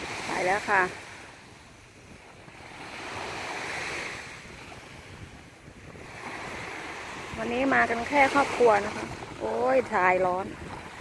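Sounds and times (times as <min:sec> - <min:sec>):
sea waves washing on beach: 0:00.0 - 0:11.0
wind buffeting microphone: 0:00.0 - 0:11.0.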